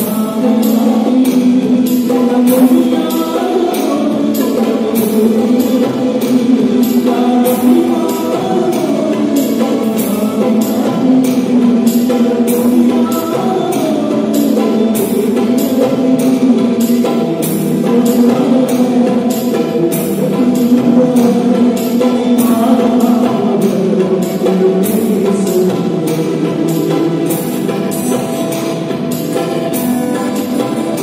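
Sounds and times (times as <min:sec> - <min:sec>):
electronic drum rhythm: 0:00.0 - 0:31.0
electronic keyboard playing: 0:00.0 - 0:31.0.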